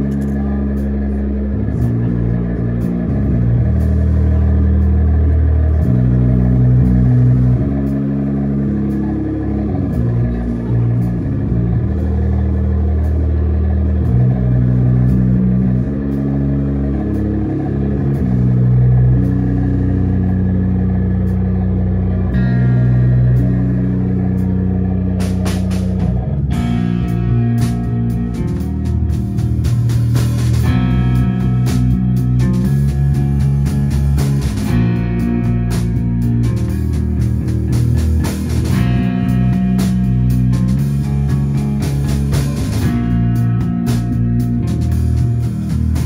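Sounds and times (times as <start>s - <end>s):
band playing slow low riff: 0.0s - 46.0s.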